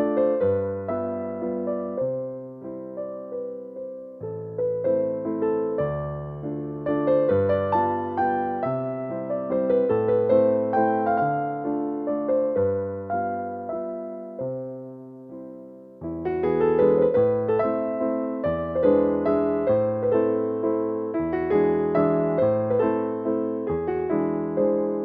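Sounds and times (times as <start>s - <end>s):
electric piano melody: 0.0s - 25.0s.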